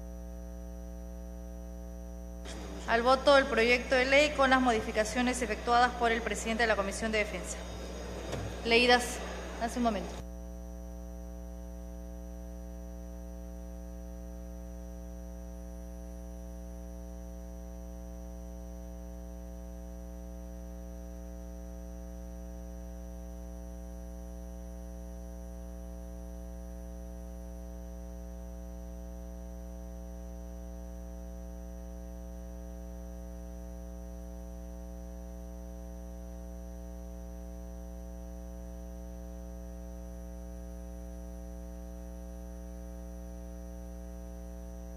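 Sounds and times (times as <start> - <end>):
electrical hum: 0.0 - 44.9.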